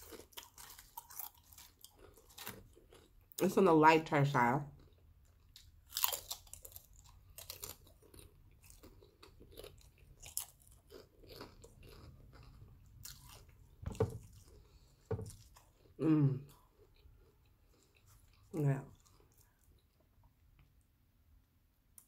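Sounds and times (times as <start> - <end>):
chewing crunchy chips: 0.0 - 3.4, 4.7 - 20.9.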